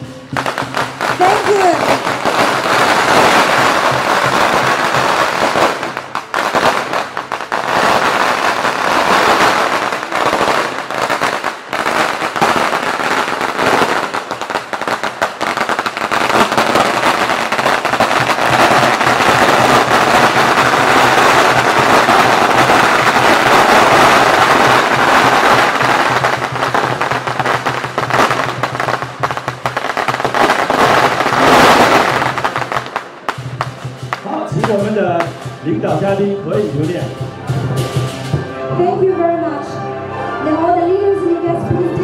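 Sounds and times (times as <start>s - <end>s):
firecrackers crackling: 0.0s - 38.6s.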